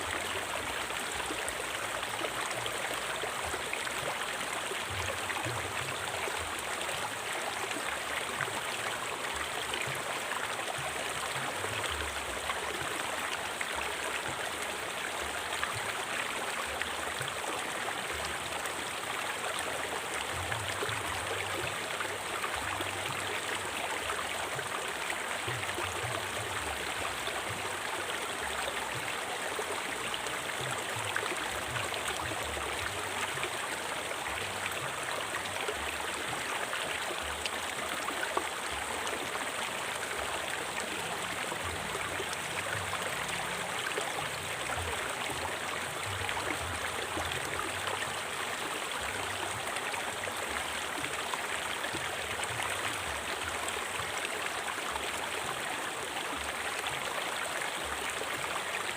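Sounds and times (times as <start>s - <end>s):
river flowing: 0.0s - 58.9s.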